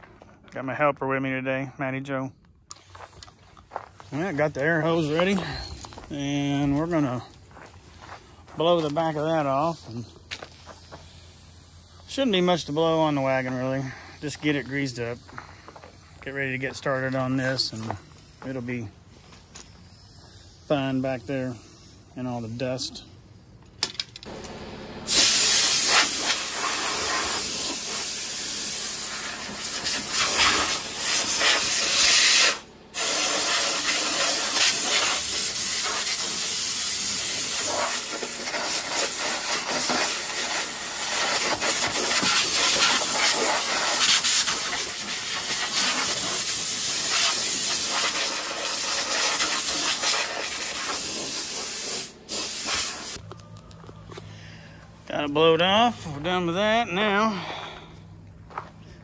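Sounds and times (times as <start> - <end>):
compressed air hissing from blow gun: 4.1 - 23.6, 25.1 - 53.2.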